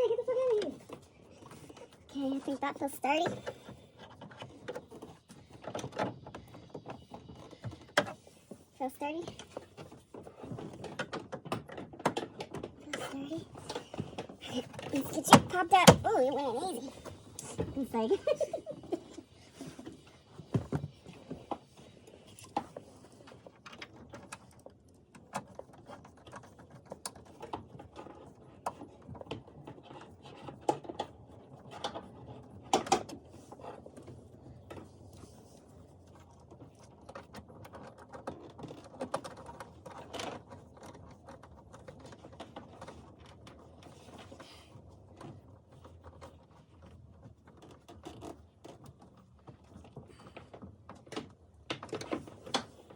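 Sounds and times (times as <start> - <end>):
plastic parts clicking and rattling: 0.0 - 52.9.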